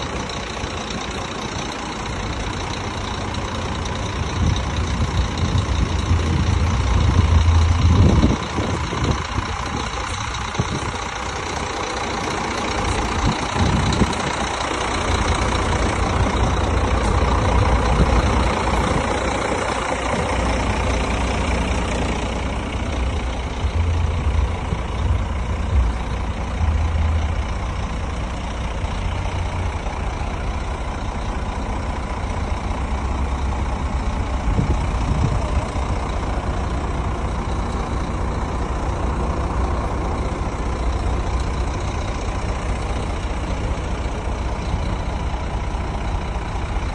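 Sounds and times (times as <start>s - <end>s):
truck diesel engine idling: 0.0s - 46.9s.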